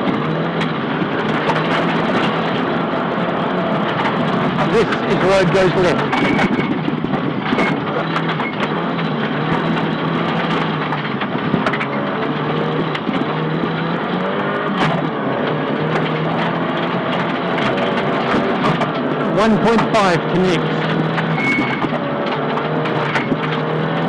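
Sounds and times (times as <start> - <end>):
road debris clicks and knocks: 0.0 - 19.3, 20.9 - 24.0.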